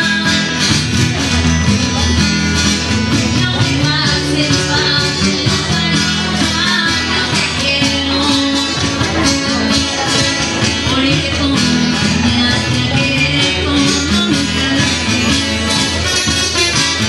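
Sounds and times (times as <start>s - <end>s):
acoustic guitars strumming: 0.0s - 17.0s
girl singing into a microphone: 3.2s - 17.0s.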